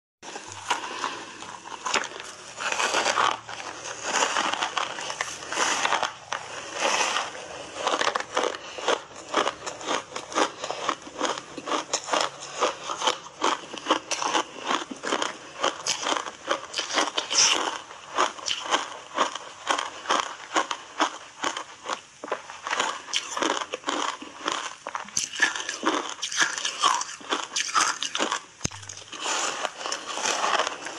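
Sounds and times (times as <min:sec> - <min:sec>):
ice crunching while chewed: 0:00.3 - 0:30.9.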